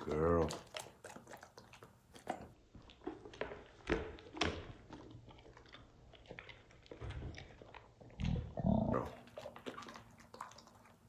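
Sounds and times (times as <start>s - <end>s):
dog chewing with wet crunches: 0.0s - 11.0s.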